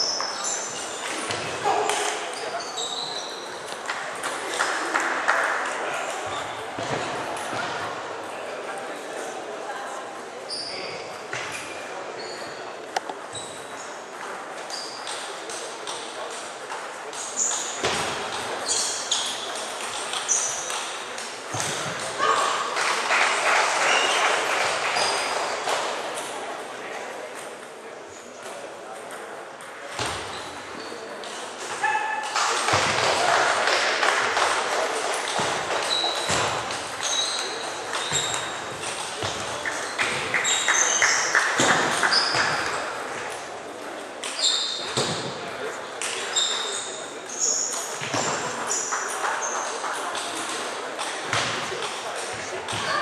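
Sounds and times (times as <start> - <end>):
voices in sports hall: 0.0 - 53.0.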